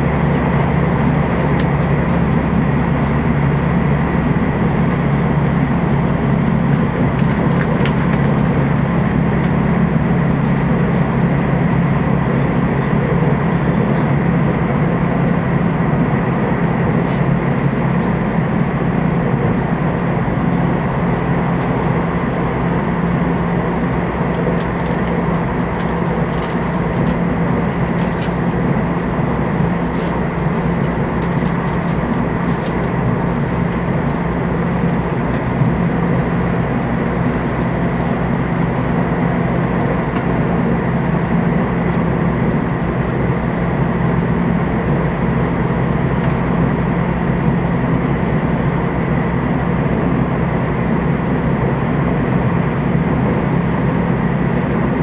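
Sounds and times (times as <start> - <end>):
constant low hum: 0.0 - 55.0
train wheels rumbling on rail: 0.0 - 55.0.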